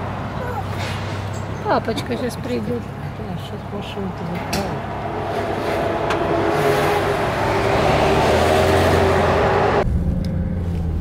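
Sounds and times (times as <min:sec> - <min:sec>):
low car engine hum: 0:00.0 - 0:11.0
vehicle engine and road noise: 0:00.0 - 0:11.0.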